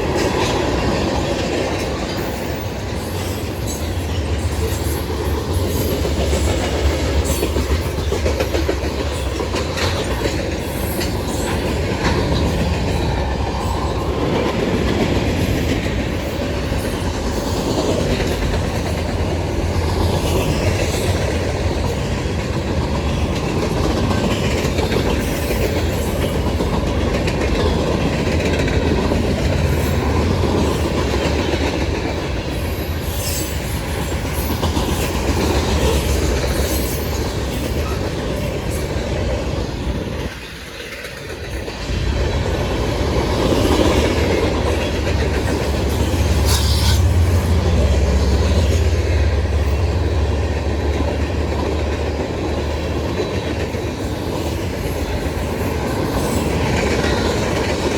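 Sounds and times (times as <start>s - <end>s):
freight train wheels clacking: 0.0s - 57.9s
heavy train rumble: 0.0s - 57.9s.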